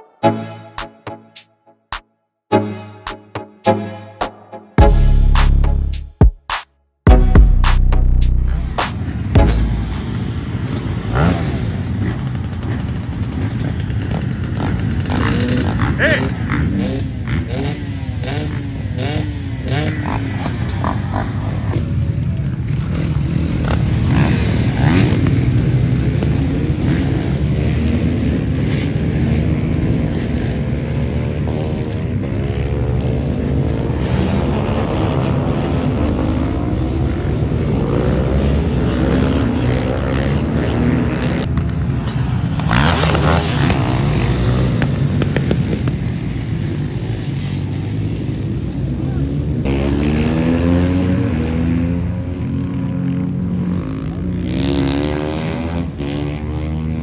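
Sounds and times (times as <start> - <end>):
motorcycle engines revving: 7.7 - 57.0.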